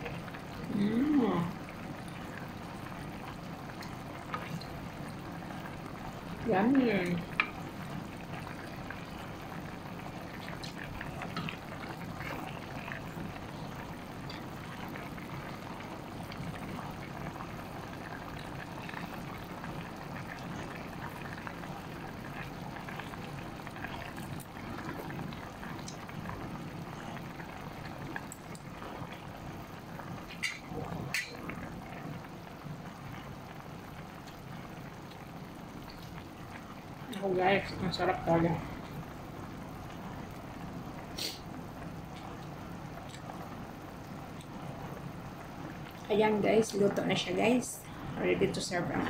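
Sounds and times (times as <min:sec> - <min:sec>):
sauce boiling and bubbling: 0:00.0 - 0:49.0.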